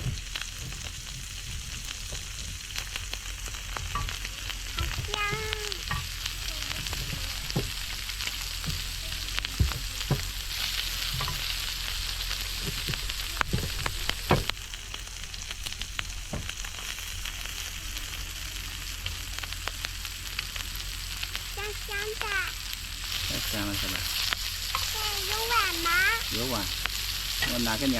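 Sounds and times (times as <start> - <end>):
meat sizzling in a pan: 0.0 - 27.9.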